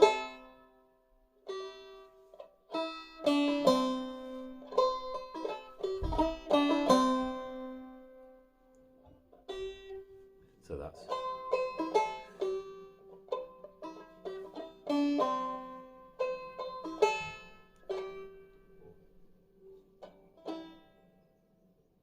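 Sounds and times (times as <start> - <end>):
banjo plucked notes: 0.0 - 21.8.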